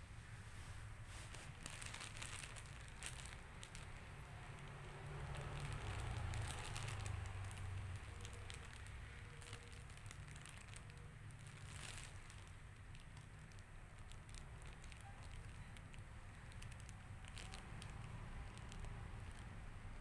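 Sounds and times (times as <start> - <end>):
plastic wrapper crackling: 1.2 - 20.0.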